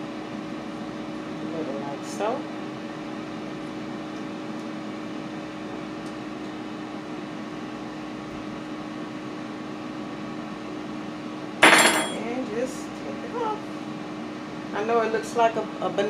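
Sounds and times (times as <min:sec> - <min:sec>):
air fryer fan hum: 0:00.0 - 0:16.0.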